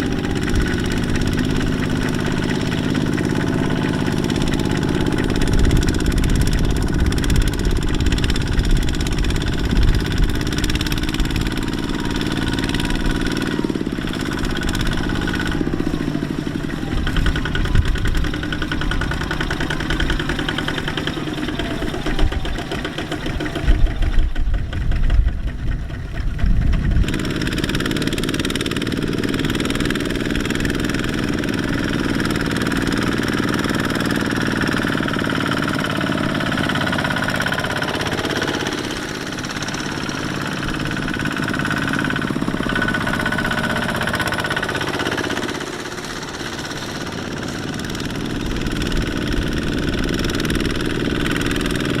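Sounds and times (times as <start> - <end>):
diesel tractor engines under load: 0.0 - 52.0
heavy low rumbling: 0.0 - 52.0.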